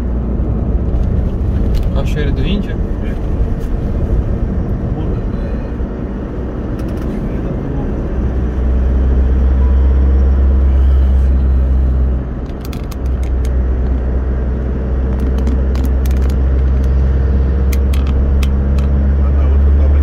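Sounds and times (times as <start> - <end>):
car engine and tyre drone: 0.0 - 20.0.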